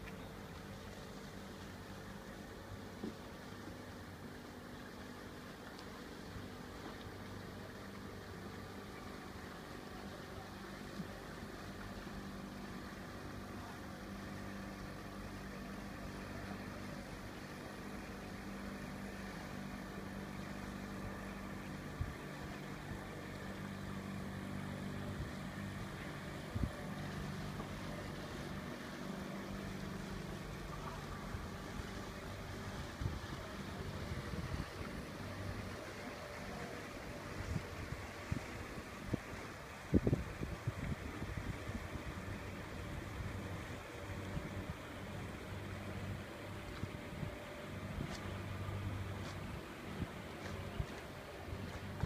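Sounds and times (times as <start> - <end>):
boat engine humming: 0.0 - 52.0.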